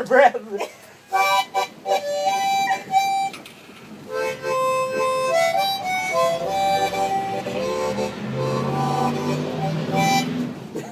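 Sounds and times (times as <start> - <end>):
harmonica imitating train whistle: 1.1 - 3.4, 4.1 - 10.6.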